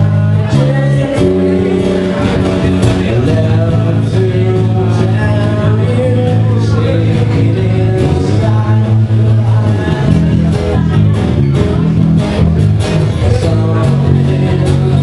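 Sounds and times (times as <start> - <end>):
acoustic guitar: 0.0 - 15.0
bass guitar: 0.0 - 15.0
person singing: 0.0 - 15.0.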